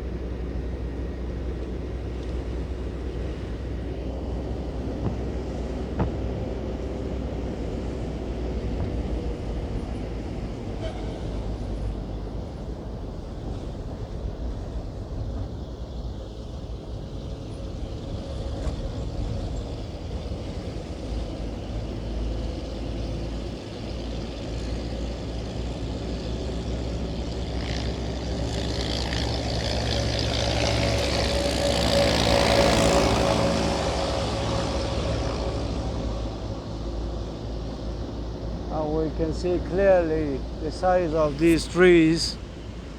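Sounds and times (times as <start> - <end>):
engine and road rumble: 0.0 - 42.9.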